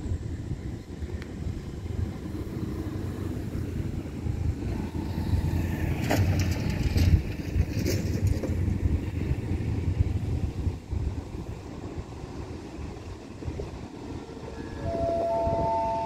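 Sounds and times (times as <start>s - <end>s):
diesel train rumbling: 0.0s - 16.0s.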